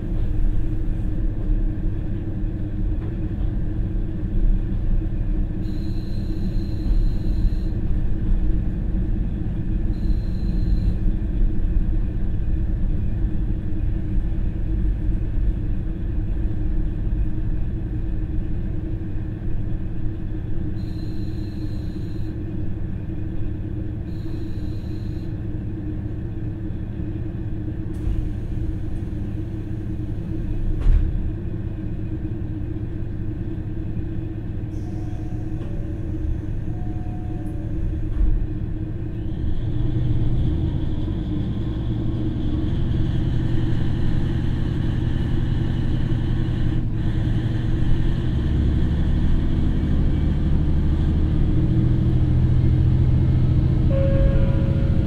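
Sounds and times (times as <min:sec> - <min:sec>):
diesel railcar engine idling: 0:00.0 - 0:55.0.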